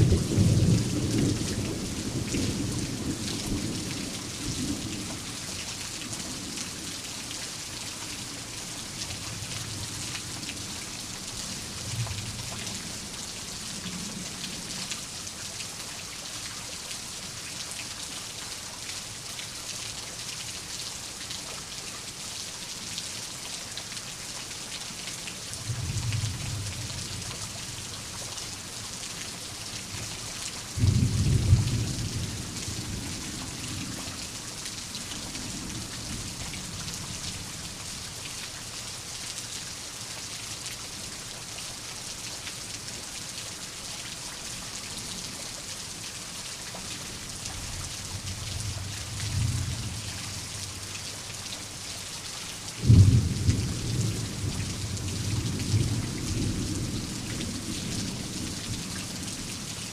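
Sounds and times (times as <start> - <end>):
steady rain hissing: 0.0 - 59.9.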